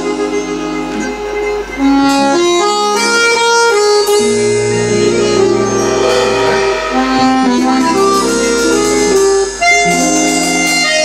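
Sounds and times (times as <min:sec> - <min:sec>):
accordion melody: 0:00.0 - 0:11.0.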